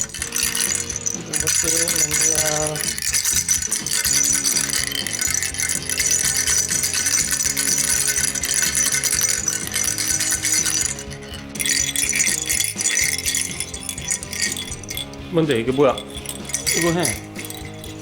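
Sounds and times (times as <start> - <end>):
background music: 0.0 - 18.0
cat rattle toy shaken: 0.0 - 18.0.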